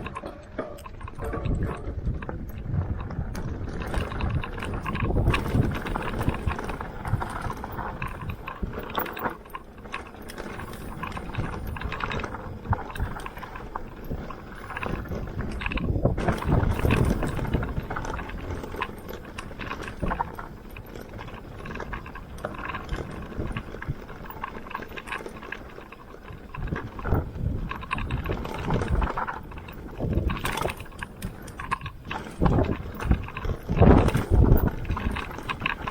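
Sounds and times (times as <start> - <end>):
wind on microphone: 0.0 - 24.5, 26.2 - 35.9
bike rattling over bumps: 0.0 - 35.9
bike tyres rolling on dirt: 0.0 - 35.9.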